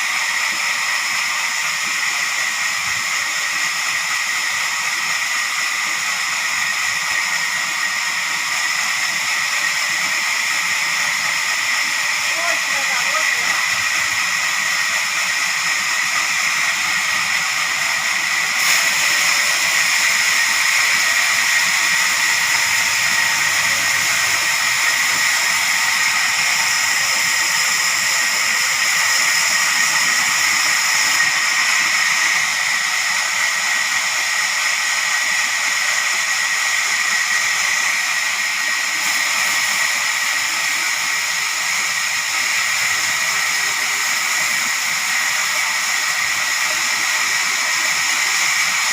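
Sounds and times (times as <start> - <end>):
saw high-pitched whine: 0.0 - 48.9.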